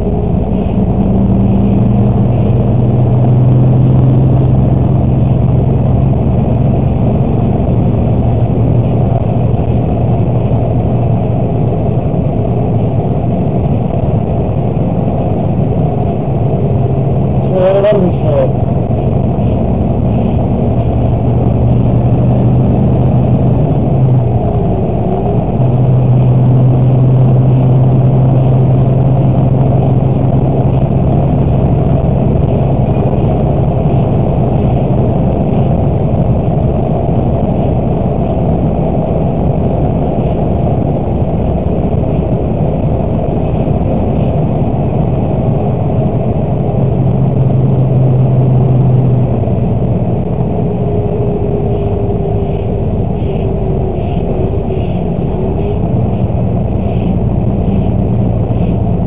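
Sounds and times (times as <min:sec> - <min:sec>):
bus engine running: 0:00.0 - 0:59.0
road noise: 0:00.0 - 0:59.0.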